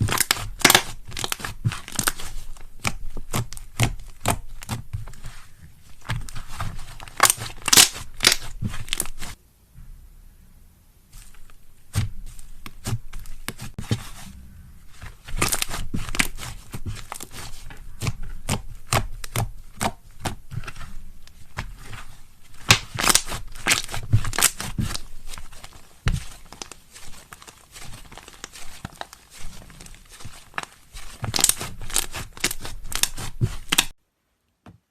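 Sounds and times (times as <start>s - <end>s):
slime squeezed crackling: 0.0s - 5.3s, 5.9s - 9.4s, 11.2s - 33.9s.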